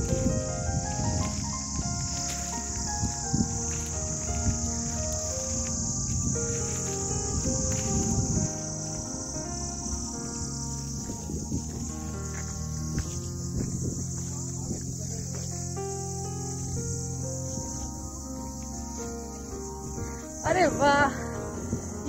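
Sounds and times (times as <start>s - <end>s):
insect chorus shrilling: 0.0s - 22.0s
low rumble of handling: 0.0s - 22.0s
soft background music: 0.0s - 22.0s.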